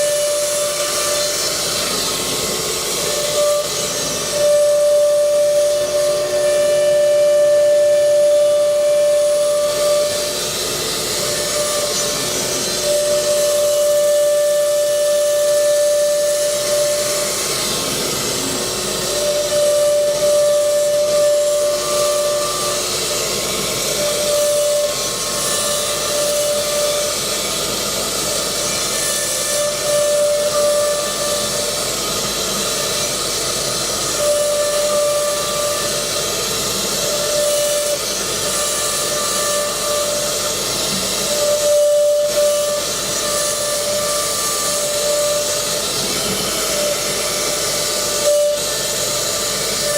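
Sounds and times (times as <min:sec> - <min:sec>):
router spindles hissing: 0:00.0 - 0:06.8, 0:08.6 - 0:49.9
high spindle whine: 0:00.0 - 0:49.9.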